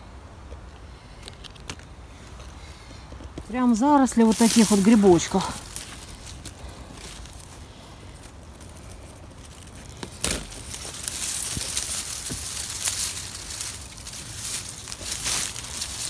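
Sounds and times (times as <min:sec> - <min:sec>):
dry leaves crackling and rustling: 0:00.9 - 0:16.0.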